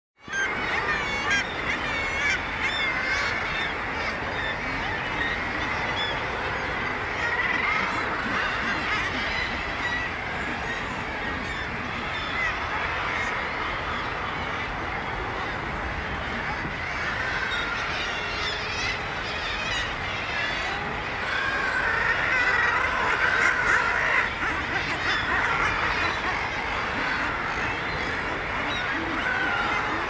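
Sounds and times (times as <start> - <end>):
low steady background noise: 0.2 - 30.0
seabirds calling: 0.2 - 30.0.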